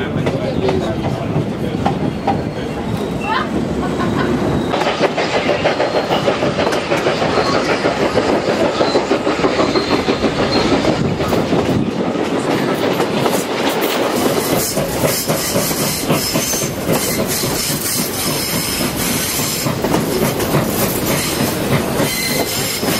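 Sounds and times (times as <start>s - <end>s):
train wheels clickety-clack: 0.0s - 22.9s.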